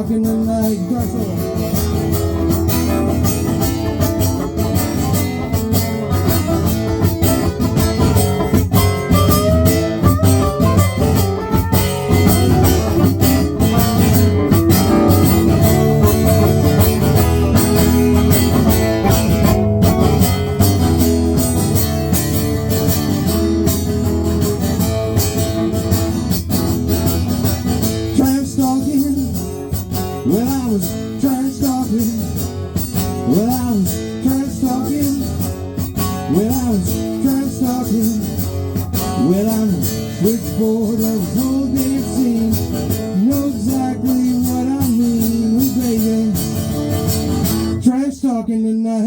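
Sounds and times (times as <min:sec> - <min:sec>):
strummed acoustic guitar: 0:00.0 - 0:48.5
acoustic band playing blues rock: 0:00.0 - 0:49.0.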